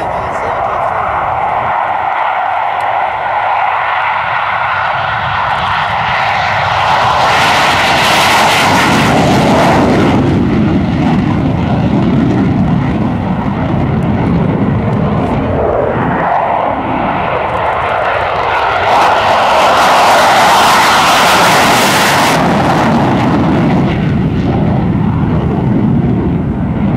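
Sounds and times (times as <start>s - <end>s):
jet fighter taking off: 0.0s - 26.9s
second jet passing: 0.0s - 26.9s.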